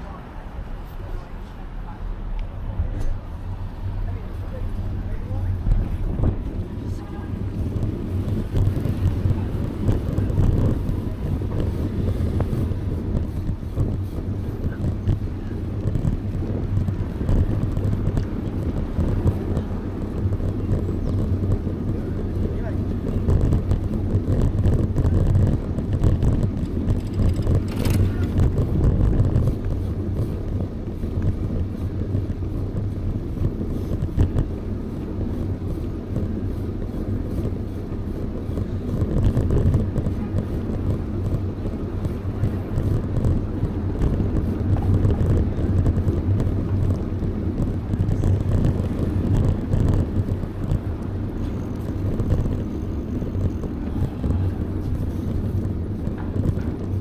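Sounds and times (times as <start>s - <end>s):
bicycle road noise: 0.0s - 57.0s
wind rumbling on microphone: 0.0s - 57.0s.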